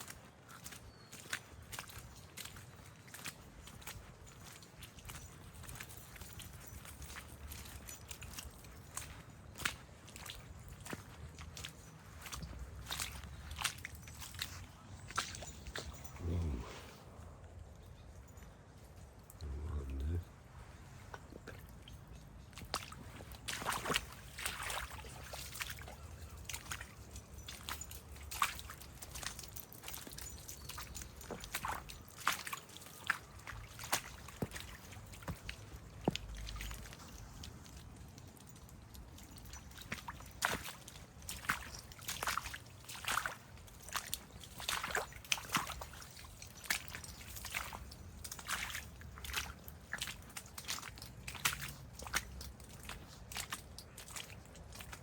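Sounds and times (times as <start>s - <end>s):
footsteps squelching through water: 0.0s - 55.0s.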